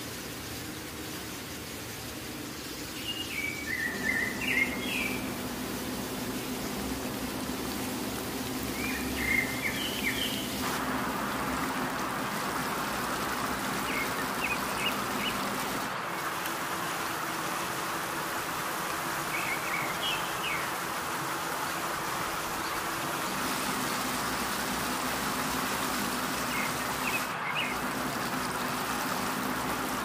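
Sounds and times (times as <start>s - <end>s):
steady hiss: 0.0s - 30.0s
birds chirping: 2.6s - 16.3s, 19.0s - 30.0s.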